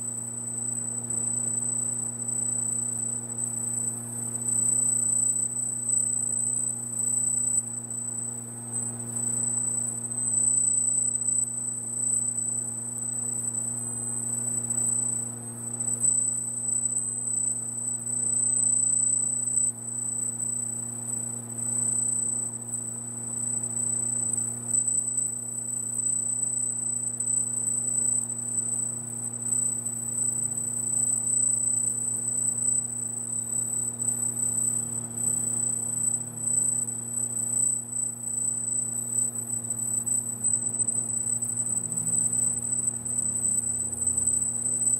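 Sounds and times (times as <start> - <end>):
laser machine high-pitched whine: 0.0 - 44.9.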